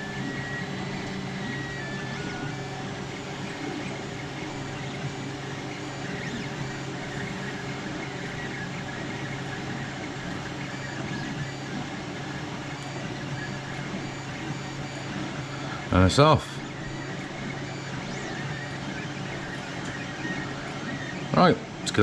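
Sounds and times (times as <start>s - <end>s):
resin printer humming: 0.0s - 22.0s.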